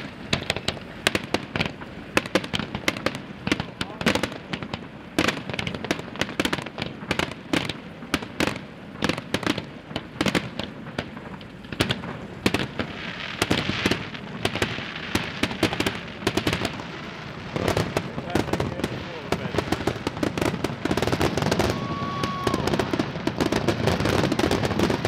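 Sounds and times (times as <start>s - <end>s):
firework shells bursting: 0.0s - 25.0s
fireworks hissing: 0.0s - 25.0s.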